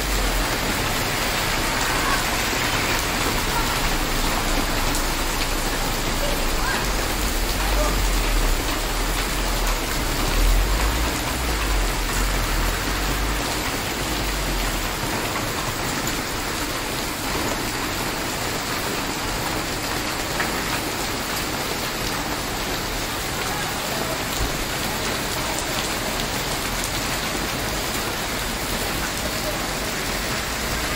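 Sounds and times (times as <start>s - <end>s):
heavy rain on pavement: 0.0s - 30.9s.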